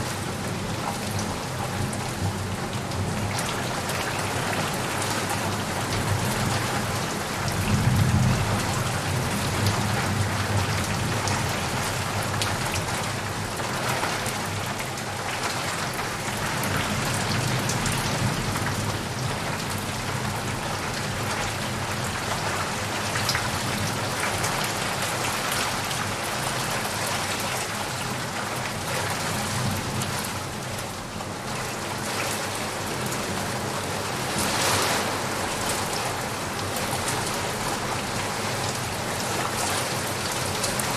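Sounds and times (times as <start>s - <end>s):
heavy rain on leaves and puddles: 0.0s - 40.9s.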